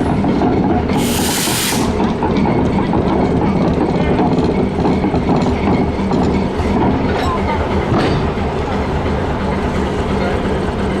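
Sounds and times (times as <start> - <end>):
train rumbling on rails: 0.0 - 11.0
train wheels clicking: 0.0 - 11.0.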